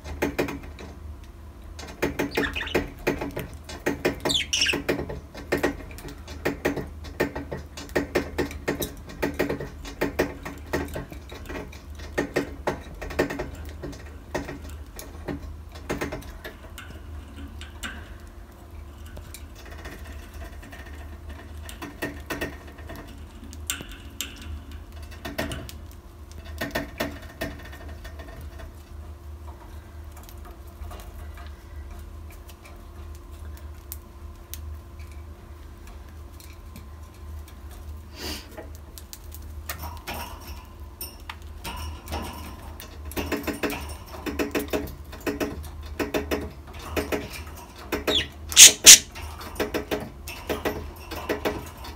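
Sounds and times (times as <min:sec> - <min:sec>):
beaks and claws tapping cage: 0:00.0 - 0:37.9, 0:38.6 - 0:51.9.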